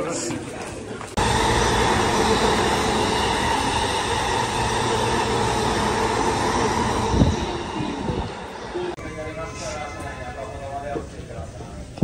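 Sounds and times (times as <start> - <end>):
train rumble: 1.0 - 12.0
constant hum: 1.1 - 12.0.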